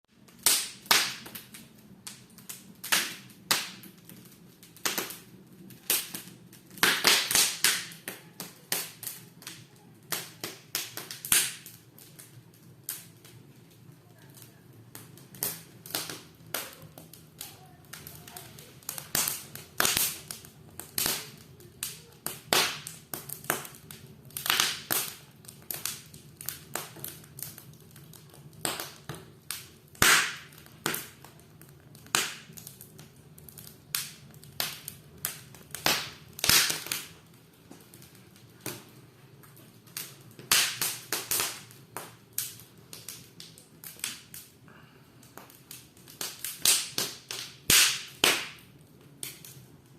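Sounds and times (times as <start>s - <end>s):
wood fire crackling: 0.1s - 49.9s.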